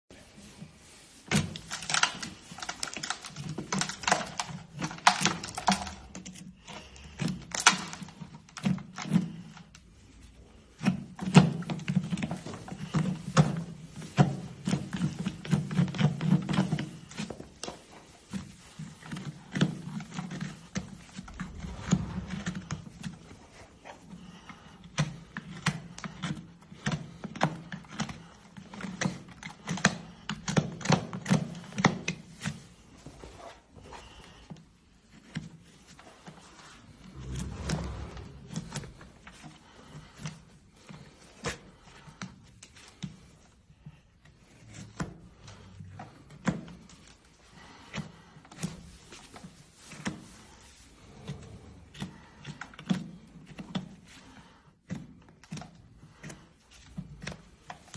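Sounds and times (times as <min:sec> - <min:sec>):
tools clicking and scraping on hoof: 0:01.2 - 0:57.9.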